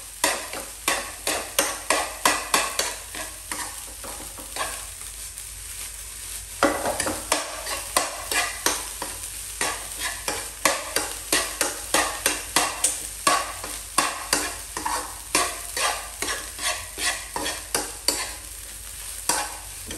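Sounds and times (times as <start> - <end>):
frying sizzle: 0.0 - 19.9
metal spatula scraping a wok: 0.2 - 4.9, 6.6 - 18.5, 19.2 - 19.9.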